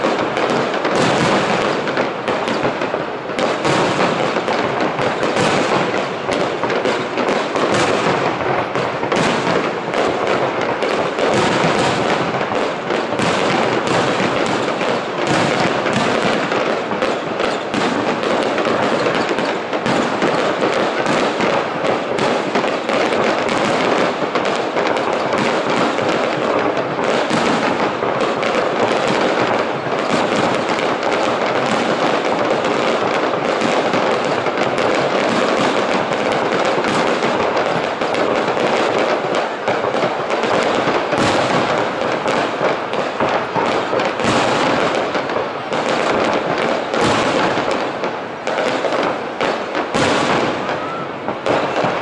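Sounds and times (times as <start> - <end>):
fireworks bursting: 0.0 - 52.0.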